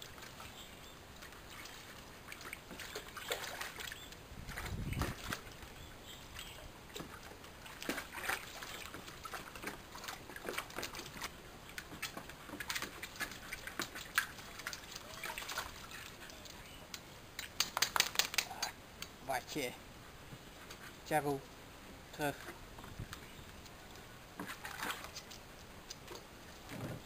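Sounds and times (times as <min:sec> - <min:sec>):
water sloshing and splashing: 0:00.0 - 0:18.5, 0:22.2 - 0:27.0.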